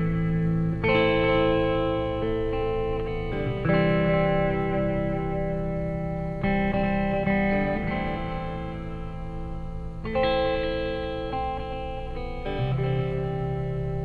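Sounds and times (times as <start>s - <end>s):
slow sustained guitar chords: 0.0s - 14.0s.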